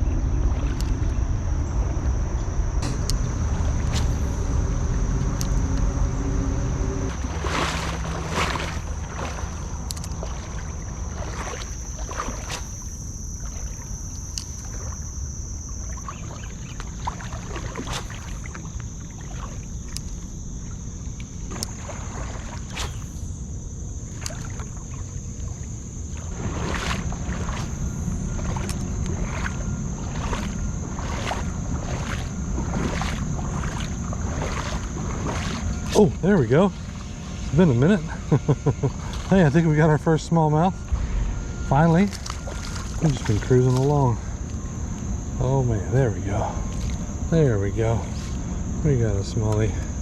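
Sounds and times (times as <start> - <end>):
high thin whine: 0.0 - 50.0.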